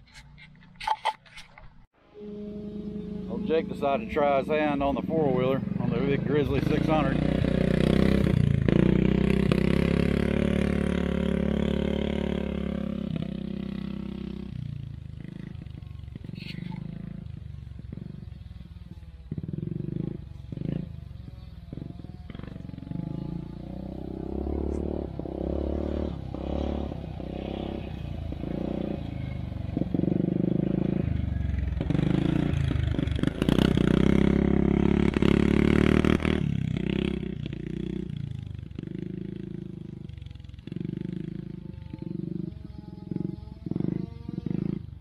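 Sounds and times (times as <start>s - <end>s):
quad bike engine revving: 2.2s - 45.0s.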